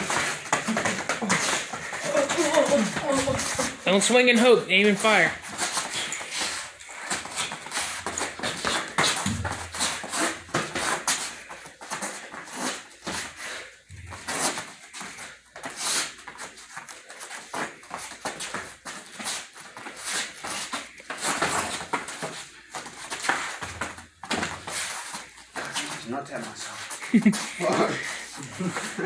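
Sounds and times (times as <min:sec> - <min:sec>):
sharp huffing breaths: 0:00.0 - 0:03.8, 0:05.4 - 0:23.6, 0:26.6 - 0:29.0.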